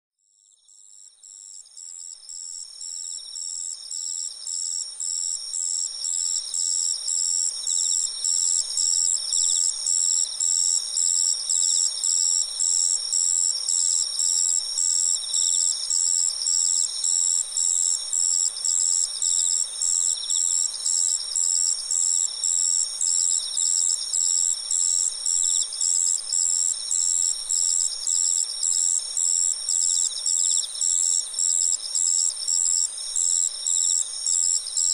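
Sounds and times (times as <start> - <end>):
continuous high insect trills: 0.2 - 34.9
crickets chirping: 0.4 - 34.9.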